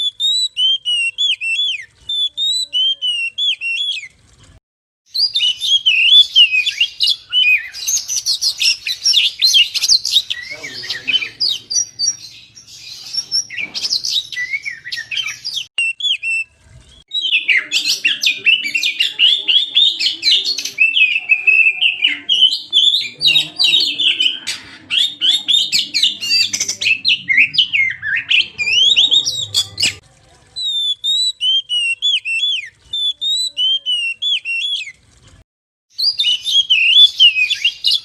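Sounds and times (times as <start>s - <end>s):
songbird whistling and chattering: 0.0s - 4.1s, 5.1s - 30.0s, 30.6s - 35.0s, 36.0s - 38.0s.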